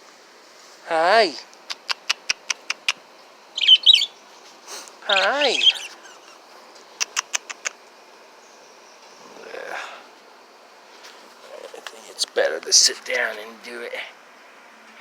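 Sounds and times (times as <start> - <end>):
birds chirping: 0.9 - 15.0.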